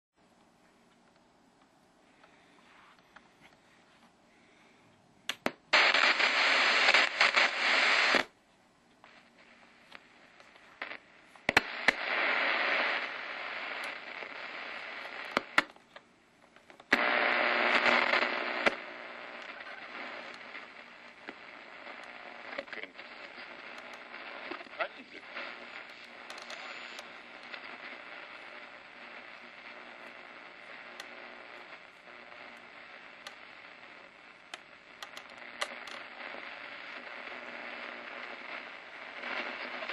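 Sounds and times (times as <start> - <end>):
radio clicks: 5.3 - 39.9
radio static hiss bursts: 5.4 - 8.4, 9.0 - 16.0, 16.6 - 39.9.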